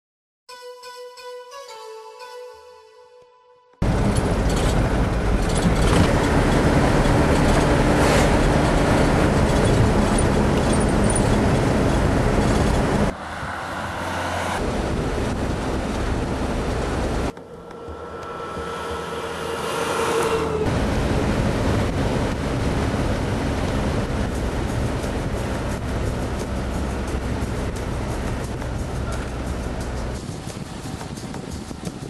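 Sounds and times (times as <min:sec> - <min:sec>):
vehicle road noise: 0:03.8 - 0:32.0.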